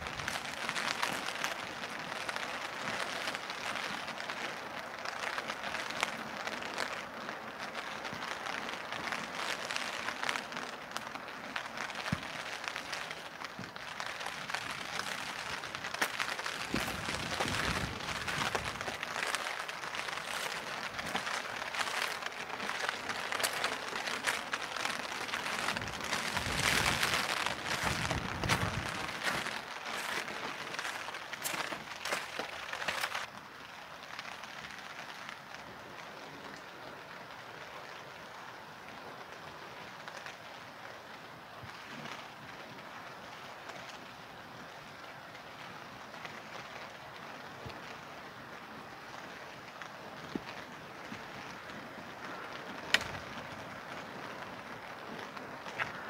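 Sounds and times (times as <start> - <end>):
rain pattering on umbrella: 0.0 - 56.0.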